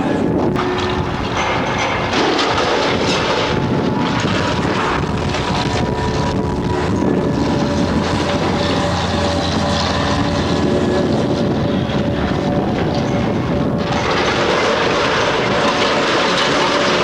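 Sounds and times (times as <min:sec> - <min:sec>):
diesel engine rumbling: 0:00.1 - 0:17.0.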